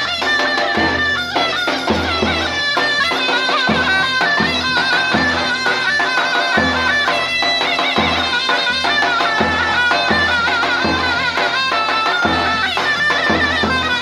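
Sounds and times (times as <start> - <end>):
big drum beats: 0.0 - 14.0
reed pipe melody: 0.0 - 14.0.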